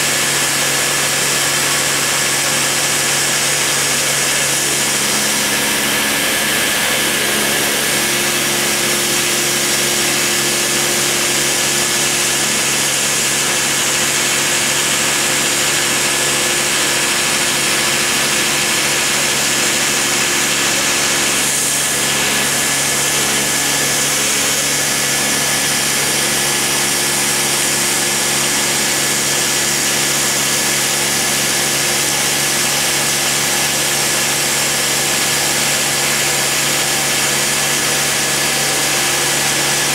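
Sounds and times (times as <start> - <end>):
rotary tool cutting wood: 0.0 - 39.9.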